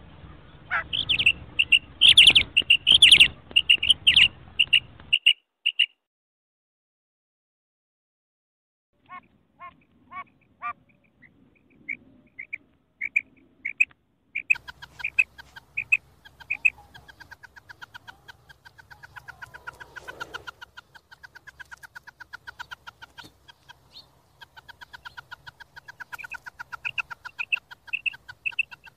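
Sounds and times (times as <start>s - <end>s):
low background noise: 0.0s - 5.8s, 9.0s - 28.9s
quail calling: 0.7s - 5.9s, 9.0s - 28.9s.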